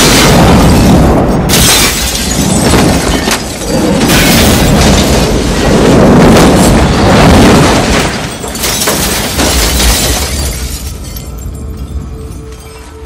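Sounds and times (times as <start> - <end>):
glass shattering: 0.0 - 5.6, 6.4 - 11.8
debris raining onto cars: 0.0 - 11.3.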